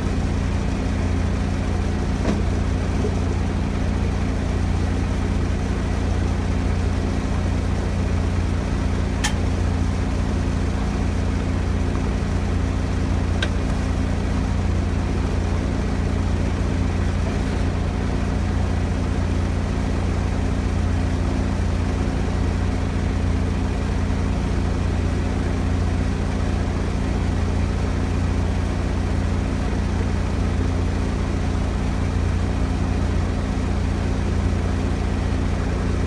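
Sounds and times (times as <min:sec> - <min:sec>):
large engine idling: 0:00.0 - 0:36.0.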